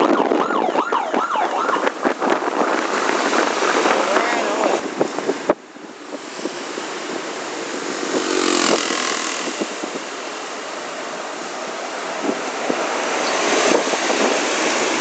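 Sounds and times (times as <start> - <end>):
steady road noise: 0.0 - 15.0
passing vehicle engine and tyres: 1.6 - 15.0.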